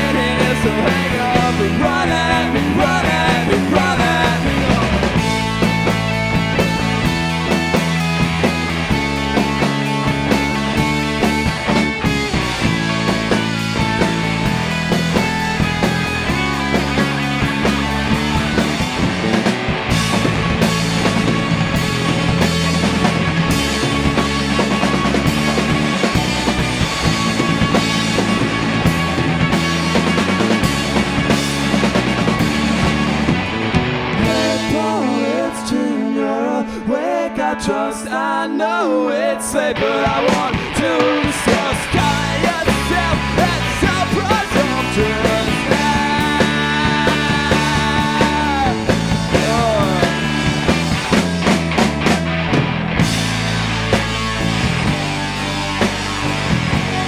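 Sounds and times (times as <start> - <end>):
drum kit beat: 0.0 - 35.3, 40.1 - 57.0
guitars: 0.0 - 57.0
rock band playing live: 0.0 - 57.0.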